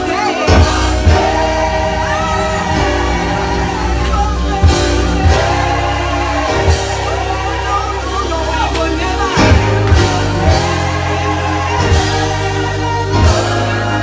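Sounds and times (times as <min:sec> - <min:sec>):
band with heavy bass: 0:00.0 - 0:14.0
gospel singing: 0:00.0 - 0:14.0.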